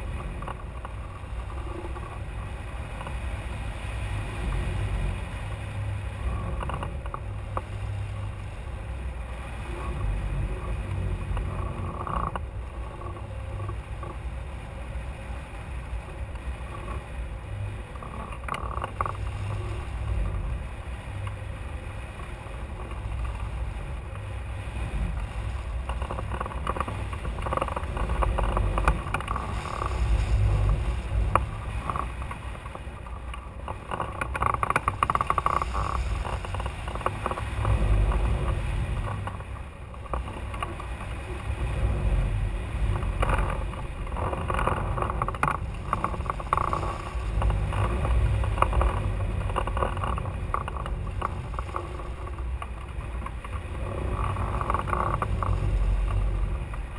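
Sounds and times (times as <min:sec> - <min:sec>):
wind rumble on microphone: 0:00.0 - 0:56.9.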